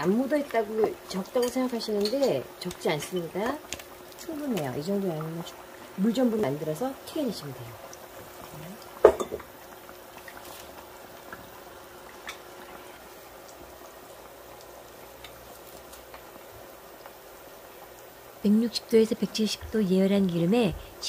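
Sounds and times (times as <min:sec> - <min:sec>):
faint crackles: 0:00.0 - 0:21.0
meat deep-frying in oil: 0:00.0 - 0:21.0.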